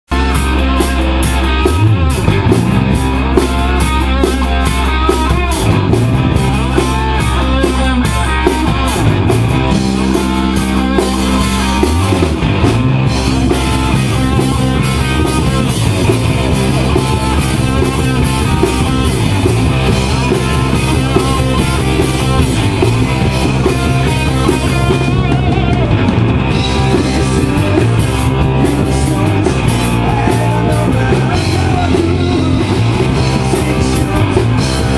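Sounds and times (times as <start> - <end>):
rock music with drums and guitar: 0.1 - 34.9.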